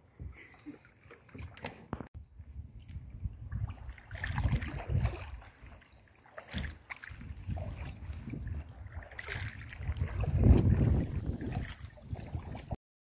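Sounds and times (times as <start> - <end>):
canoe paddle strokes in water: 0.0 - 12.8
wind buffeting microphone: 2.0 - 12.8.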